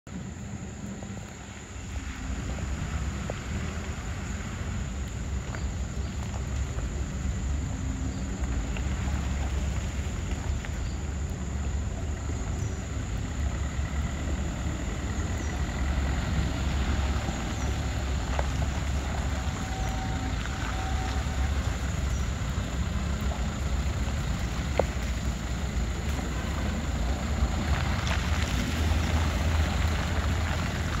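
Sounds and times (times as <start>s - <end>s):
diesel truck engine running low: 0.1s - 31.0s.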